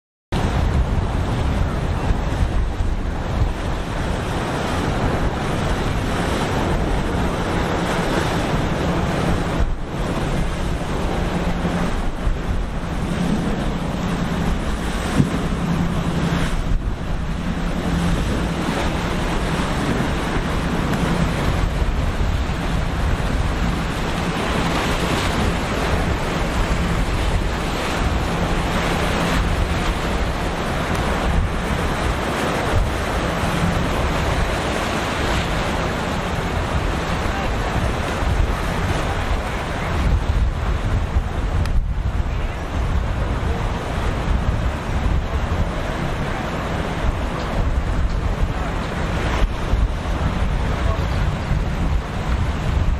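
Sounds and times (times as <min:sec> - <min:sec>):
low boat engine drone: 0:00.3 - 0:52.9
wind buffeting microphone: 0:00.3 - 0:52.9
breaking waves: 0:00.4 - 0:52.9.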